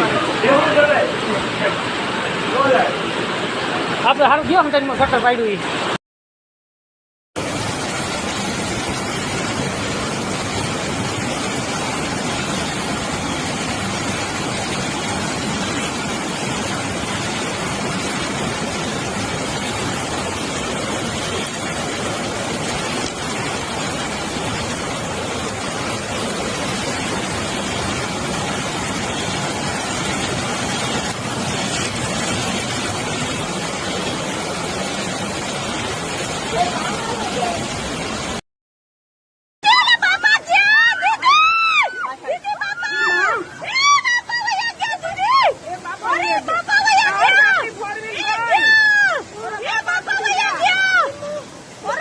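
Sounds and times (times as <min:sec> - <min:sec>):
floodwater rushing: 0:00.0 - 0:06.0, 0:07.4 - 0:38.4, 0:39.6 - 0:52.0.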